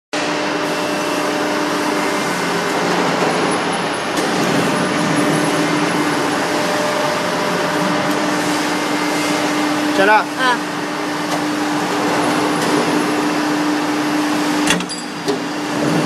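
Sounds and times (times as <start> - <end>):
machine motor humming: 0.2 - 16.0.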